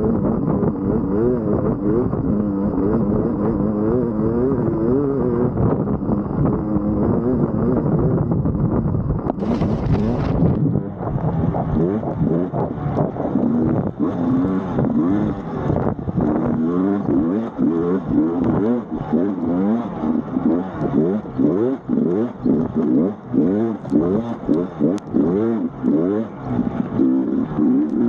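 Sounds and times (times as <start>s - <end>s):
two-stroke engine revving: 0.0s - 8.3s, 9.3s - 28.0s.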